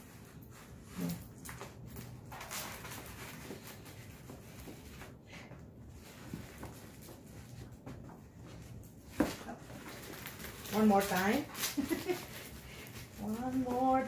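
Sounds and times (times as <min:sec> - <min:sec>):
plastic film rustling: 0:00.0 - 0:14.0.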